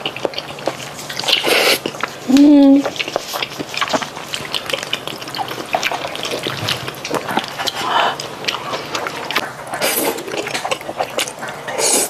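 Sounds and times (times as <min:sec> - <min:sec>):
wet squelching of noodles: 0:00.0 - 0:12.0.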